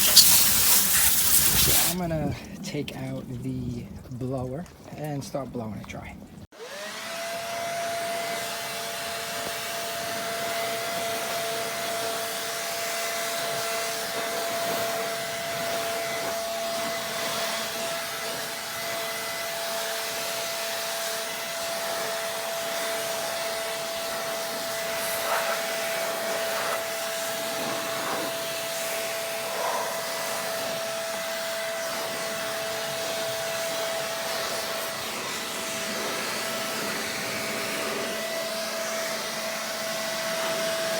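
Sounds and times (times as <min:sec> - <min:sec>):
air blower whine: 0:06.6 - 0:40.9.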